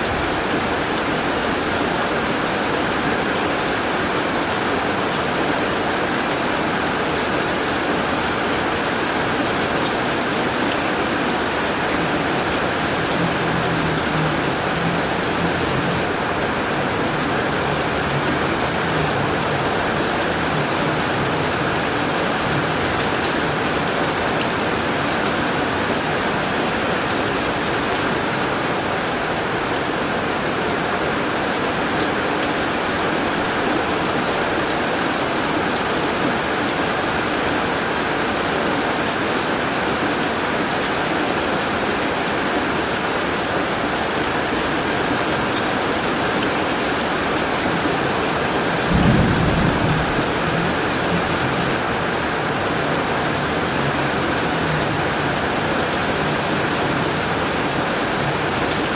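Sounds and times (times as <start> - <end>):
rain on a tin roof: 0.0 - 58.9.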